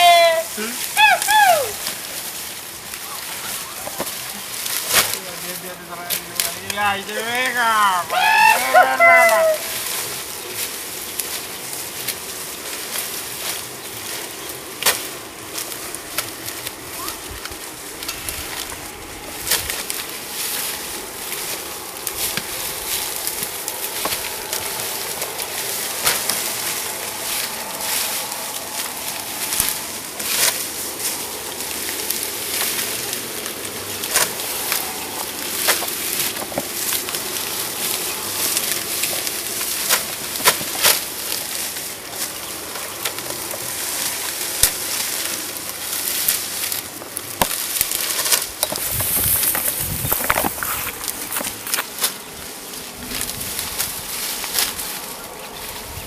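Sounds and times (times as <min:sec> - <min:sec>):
cane stalks clattering onto pile: 0:00.0 - 0:56.0
sugarcane rustling and crackling: 0:00.0 - 0:56.0.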